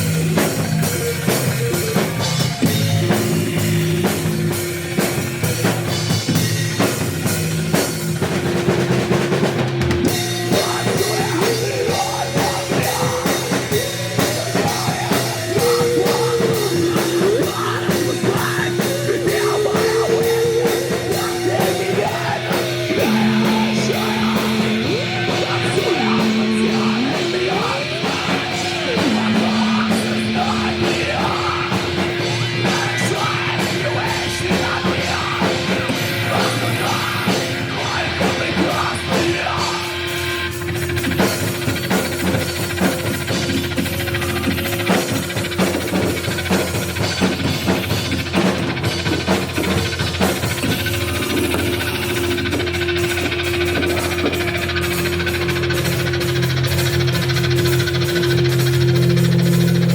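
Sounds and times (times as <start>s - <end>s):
drum kit beating: 0.0s - 59.9s
guitar drone: 0.0s - 59.9s
gliding pitched lines: 10.6s - 35.2s, 35.9s - 59.9s.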